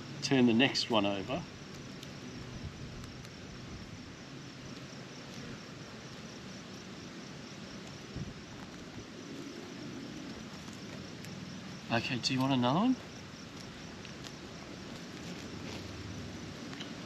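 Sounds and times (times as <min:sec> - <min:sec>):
even hiss: 0:00.0 - 0:17.0
insects chirping: 0:00.0 - 0:17.0.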